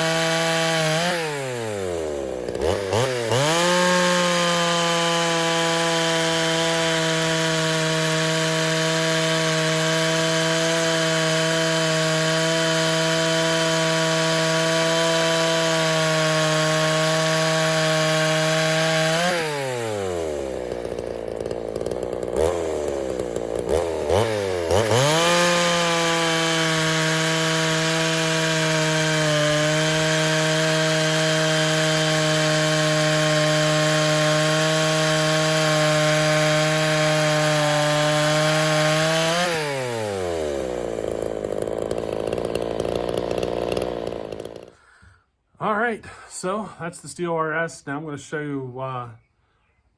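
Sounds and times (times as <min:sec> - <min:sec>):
chainsaw idling with throttle blips: 0:00.0 - 0:44.9
chainsaw cutting log: 0:00.0 - 0:45.0.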